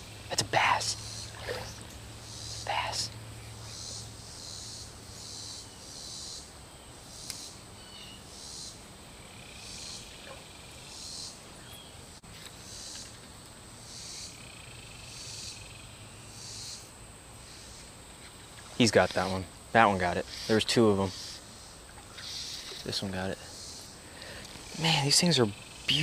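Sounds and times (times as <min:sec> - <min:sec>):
insects droning: 0:00.0 - 0:26.0
pulsing insect song: 0:00.0 - 0:26.0.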